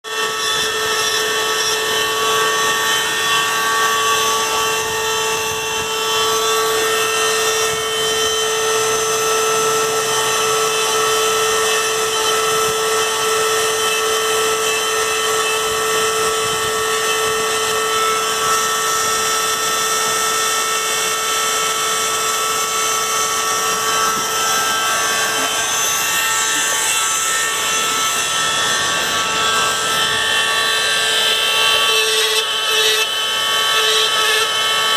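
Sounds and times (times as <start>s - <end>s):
rotary engraving tool whining: 0.0s - 34.9s.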